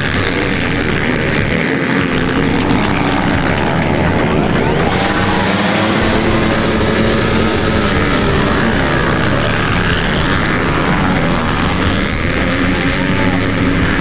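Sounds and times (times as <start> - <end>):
dirt bikes revving: 0.0 - 14.0.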